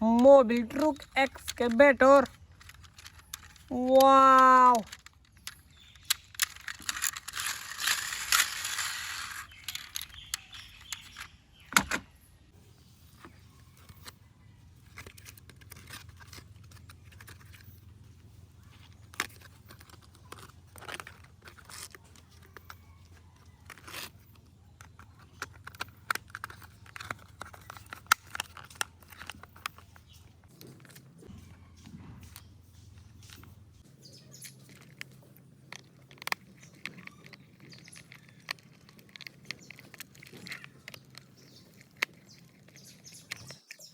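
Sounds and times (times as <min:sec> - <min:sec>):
plastic toy parts clicking: 0:00.0 - 0:12.0, 0:14.8 - 0:18.0, 0:18.6 - 0:31.3, 0:33.2 - 0:43.9.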